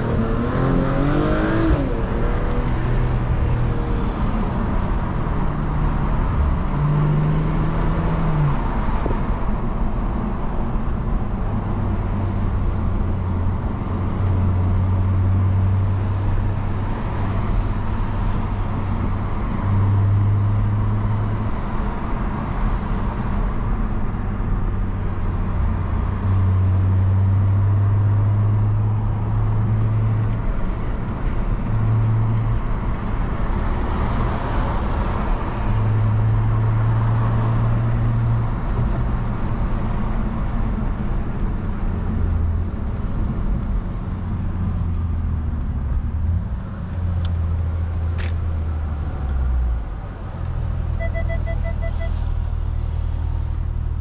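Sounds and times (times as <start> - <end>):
low engine hum: 0.0 - 54.0
tyre and road noise: 0.0 - 54.0.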